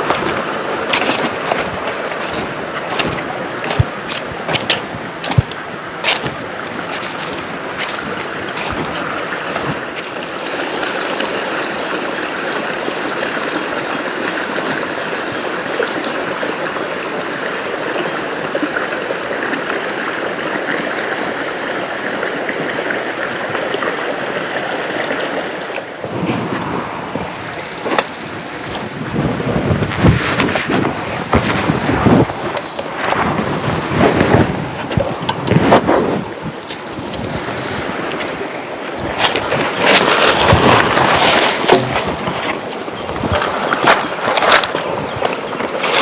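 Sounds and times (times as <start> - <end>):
river and waterfall rushing: 0.0 - 46.0.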